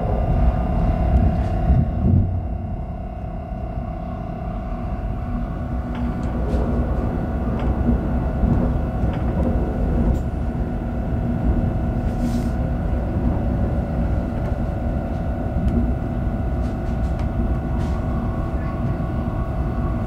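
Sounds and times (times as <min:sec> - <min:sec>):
constant electrical hum: 0:00.0 - 0:20.0
train wheels rumbling on rails: 0:00.0 - 0:20.0.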